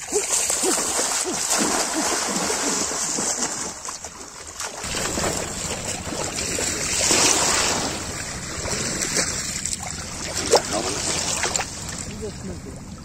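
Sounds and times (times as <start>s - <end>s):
hands splashing in water: 0.0s - 12.2s
water at shoreline: 0.0s - 13.0s
wind: 0.0s - 13.0s.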